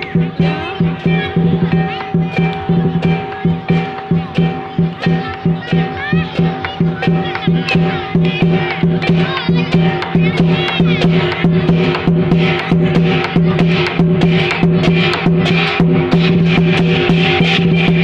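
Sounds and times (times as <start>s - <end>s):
drums and percussion beat: 0.0s - 18.0s.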